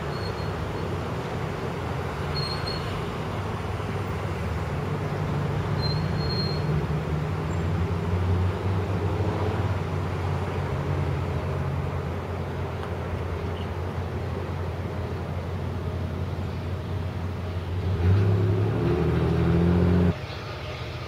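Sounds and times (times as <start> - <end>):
distant diesel locomotive drone: 0.0 - 21.0
rumble of rolling train: 0.0 - 21.0.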